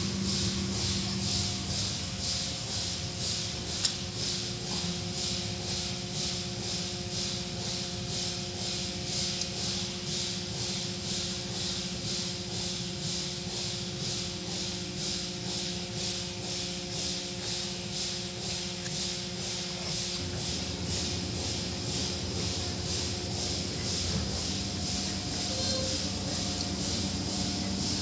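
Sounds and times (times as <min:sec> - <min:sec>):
motor hum and low rumble: 0:00.0 - 0:28.0
water spraying with pulsing hiss: 0:00.0 - 0:28.0.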